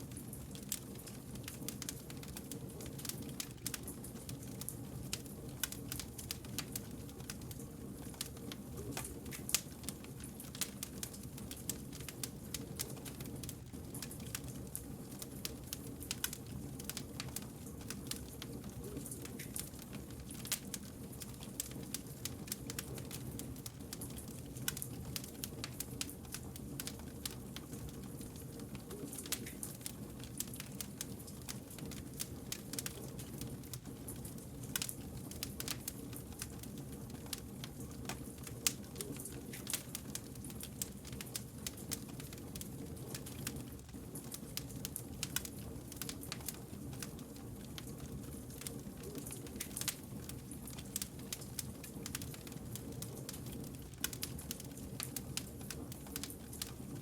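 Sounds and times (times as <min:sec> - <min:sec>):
low rumble of burning logs: 0:00.0 - 0:57.0
wood fire crackling: 0:00.0 - 0:57.0.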